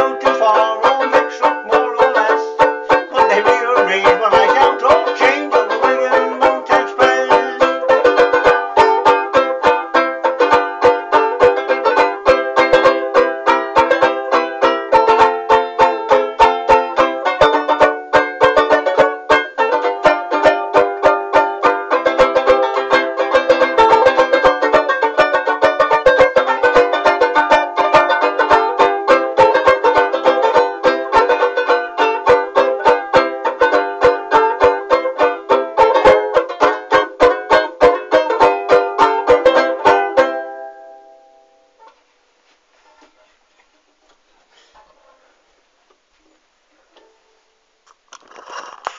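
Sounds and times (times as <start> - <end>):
banjo ukulele strumming: 0.0 - 42.0.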